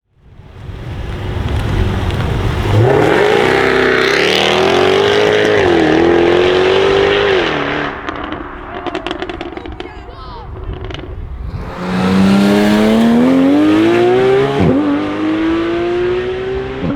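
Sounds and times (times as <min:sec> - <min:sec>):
exhaust crackles and pops: 0:00.2 - 0:15.0
car engine accelerating hard: 0:01.1 - 0:16.9.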